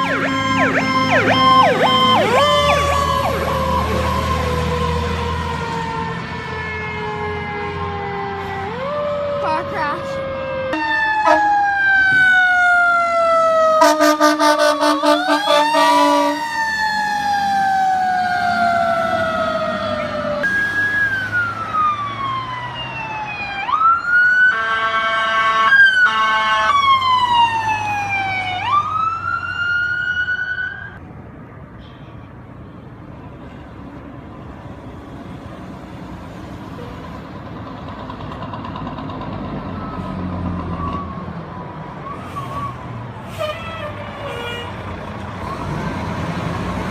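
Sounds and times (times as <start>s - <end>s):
fire truck siren wailing: 0.0s - 31.0s, 39.0s - 46.9s
truck and traffic noise: 0.0s - 46.9s.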